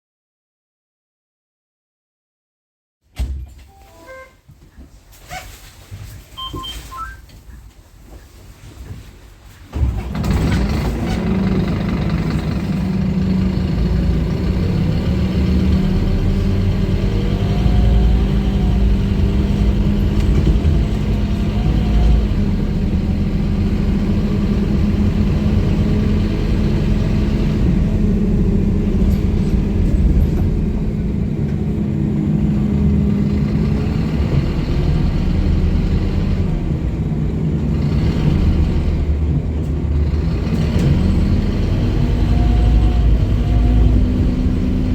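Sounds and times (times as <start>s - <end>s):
bus diesel engine running: 5.6s - 44.9s.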